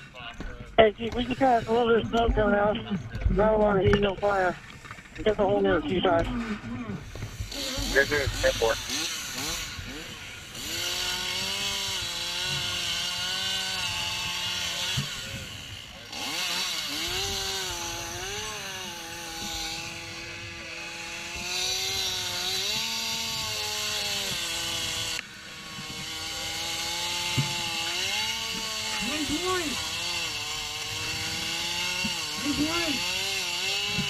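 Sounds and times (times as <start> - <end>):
gas-powered saw running: 1.0 - 2.7, 4.2 - 34.0.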